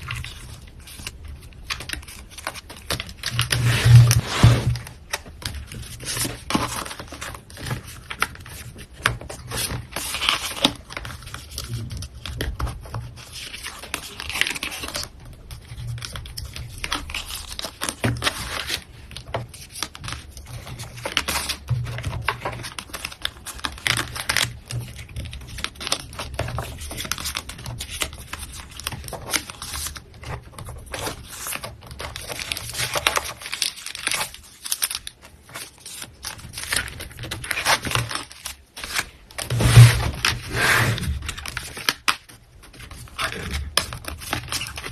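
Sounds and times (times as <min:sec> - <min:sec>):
plastic packaging crinkling: 0:00.0 - 0:44.9.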